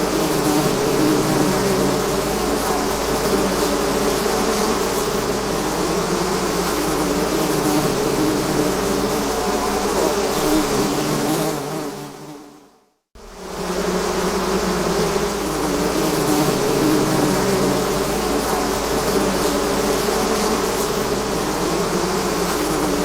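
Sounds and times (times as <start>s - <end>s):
swarm of bees buzzing: 0.0s - 23.0s.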